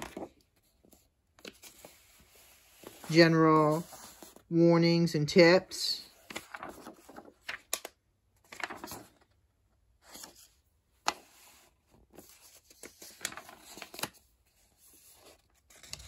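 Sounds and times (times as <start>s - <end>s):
paper pages rustling: 0.0s - 4.5s, 6.0s - 9.4s, 10.0s - 16.0s.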